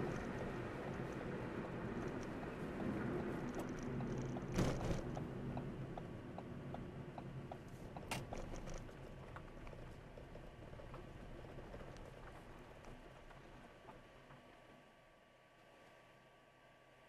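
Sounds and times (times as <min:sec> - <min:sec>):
car road and engine noise: 0:00.0 - 0:14.1.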